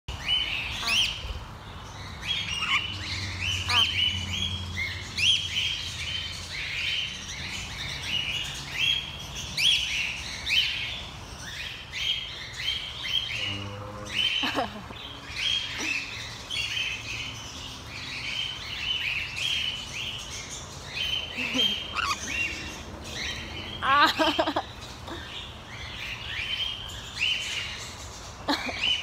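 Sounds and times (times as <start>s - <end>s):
parrots chirping: 0.1s - 1.4s, 2.0s - 13.5s, 14.1s - 29.0s.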